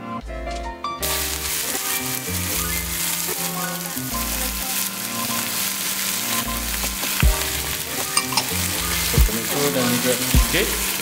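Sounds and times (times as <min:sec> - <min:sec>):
background music: 0:00.0 - 0:11.0
garlic and onion sizzling: 0:01.0 - 0:11.0.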